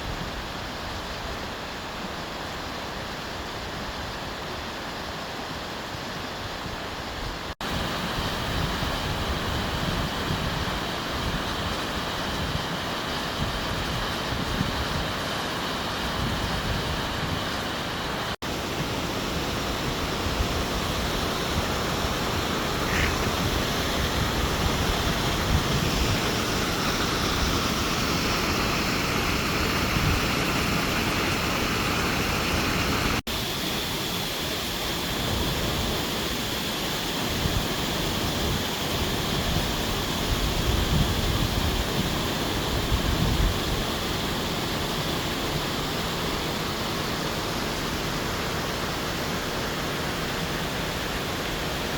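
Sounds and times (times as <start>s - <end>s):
waterfall rushing: 7.4s - 51.9s.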